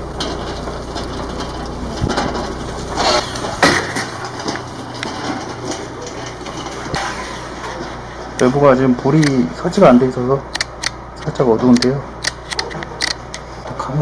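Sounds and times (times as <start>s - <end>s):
low steady hum: 0.0s - 14.0s
scattered knocks and clicks: 0.2s - 8.5s, 10.5s - 13.4s.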